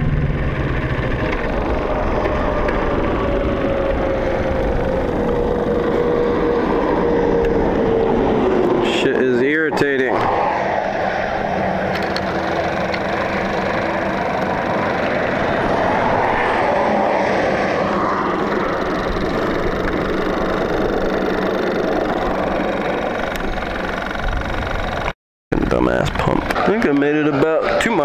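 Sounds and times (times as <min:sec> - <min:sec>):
motorcycle engine running: 0:00.0 - 0:09.2, 0:11.3 - 0:28.0
wind rushing over microphone: 0:00.0 - 0:25.0.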